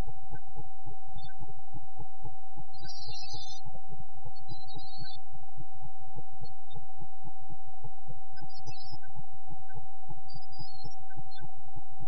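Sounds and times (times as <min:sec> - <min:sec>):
steady electronic whine: 0:00.0 - 0:12.0.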